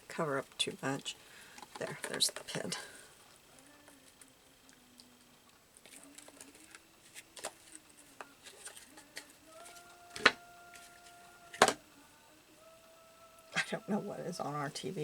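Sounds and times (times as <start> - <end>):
faint television tones: 0.0 - 15.0.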